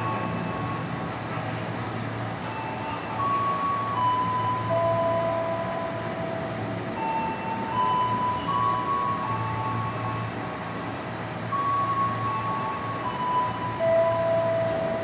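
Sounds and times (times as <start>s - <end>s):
electric train hum: 0.0s - 15.0s
train whining tones: 0.0s - 15.0s.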